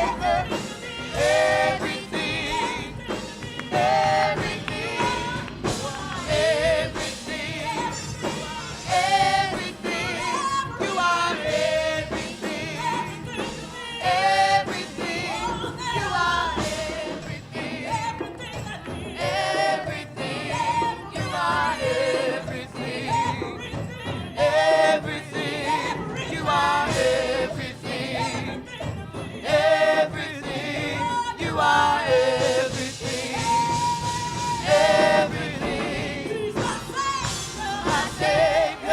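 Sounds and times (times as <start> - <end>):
gospel singing: 0.0 - 38.9
instrumental accompaniment: 0.0 - 38.9.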